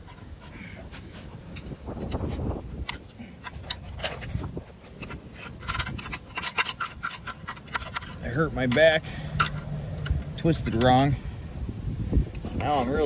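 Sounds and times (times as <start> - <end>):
fingers scraping mud off metal: 0.0 - 11.2
rustle of movement: 0.0 - 13.0.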